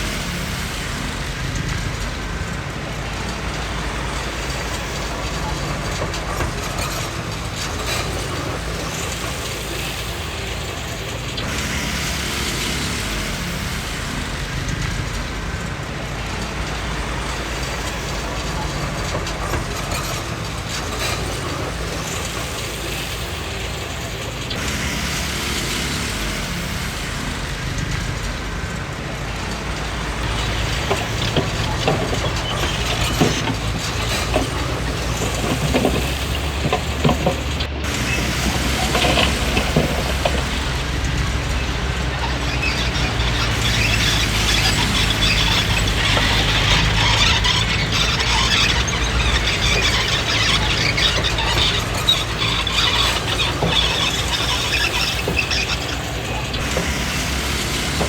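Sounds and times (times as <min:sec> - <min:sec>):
bulldozer diesel engine running: 0:00.0 - 0:58.0
steel tracks rattling and clanking: 0:00.0 - 0:58.0.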